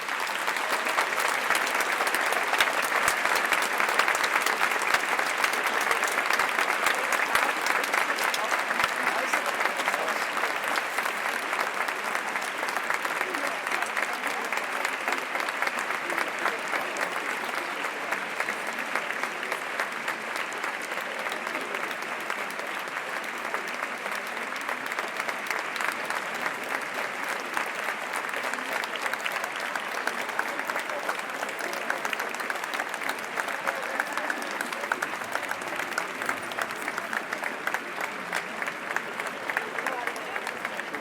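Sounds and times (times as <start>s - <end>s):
crowd applauding: 0.0s - 41.0s.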